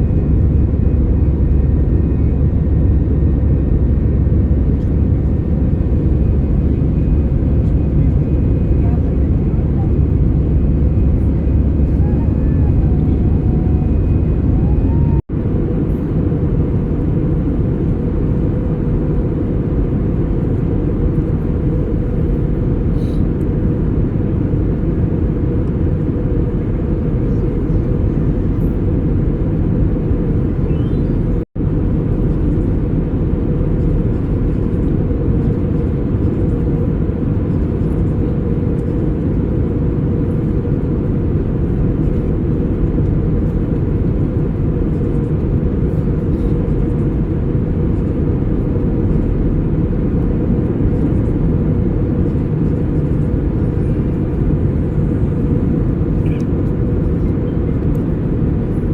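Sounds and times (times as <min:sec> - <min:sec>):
airplane cabin engine rumble: 0:00.0 - 0:58.9.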